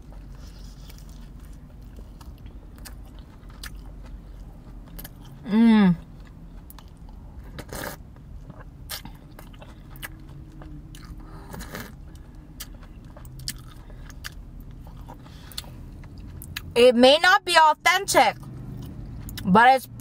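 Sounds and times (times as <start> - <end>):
chewing with wet mouth clicks: 0.0 - 16.8, 18.3 - 19.5.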